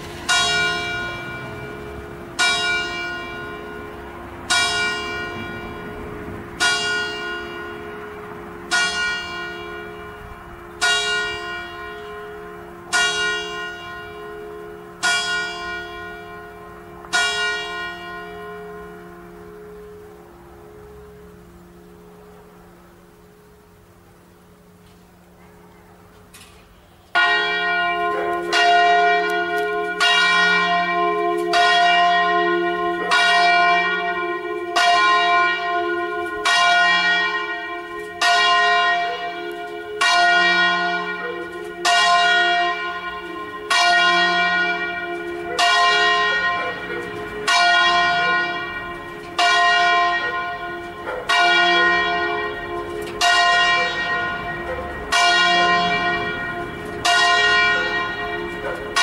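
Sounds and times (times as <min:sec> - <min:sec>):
church bell ringing: 0:00.0 - 0:59.0.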